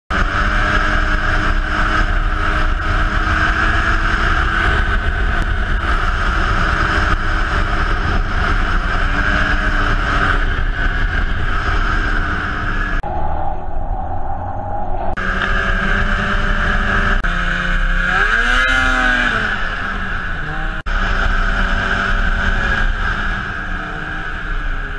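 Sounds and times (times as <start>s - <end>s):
snowmobile engine running: 0.1s - 13.0s, 15.2s - 24.9s
snowmobile track noise: 0.1s - 13.1s, 15.1s - 24.9s
wind: 0.1s - 24.9s.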